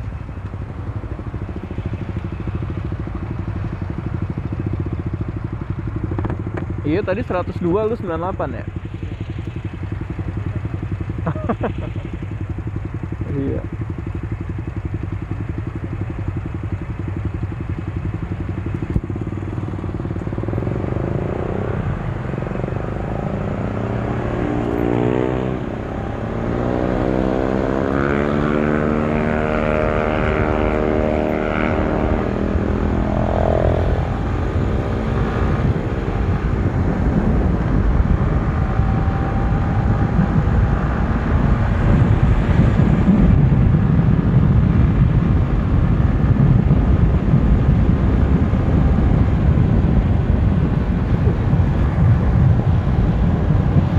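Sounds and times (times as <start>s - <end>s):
motorcycle engine accelerating: 0.0s - 53.9s
wind noise on microphone: 0.0s - 53.9s.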